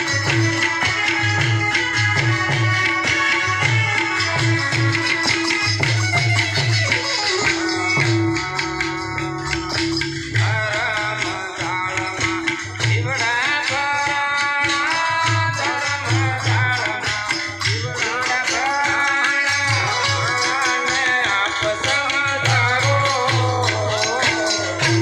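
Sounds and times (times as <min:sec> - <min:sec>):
jingling tambourine: 0:00.0 - 0:25.0
steady drum beat: 0:00.0 - 0:25.0.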